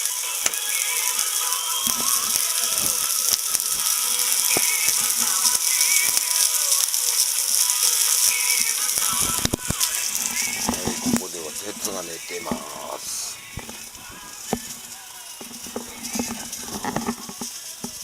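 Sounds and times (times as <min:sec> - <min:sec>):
meat sizzling on a grill: 0:00.0 - 0:18.0.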